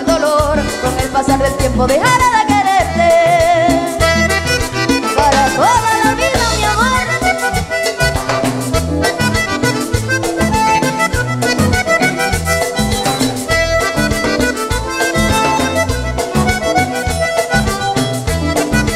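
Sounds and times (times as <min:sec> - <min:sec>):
bass: 0:00.0 - 0:18.9
button accordion: 0:00.0 - 0:18.9
congas: 0:00.0 - 0:18.9
drum kit beat: 0:00.0 - 0:18.9.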